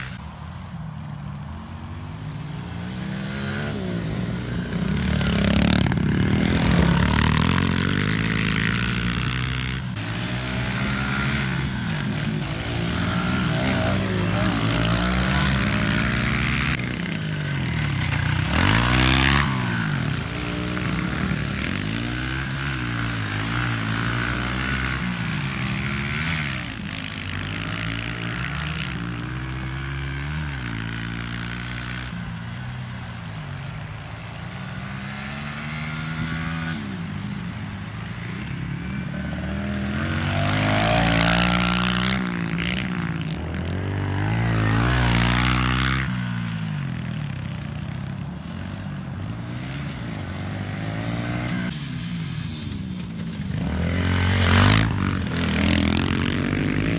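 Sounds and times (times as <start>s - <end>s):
pit bike engine revving: 2.8s - 32.9s, 34.3s - 47.7s, 53.0s - 56.9s.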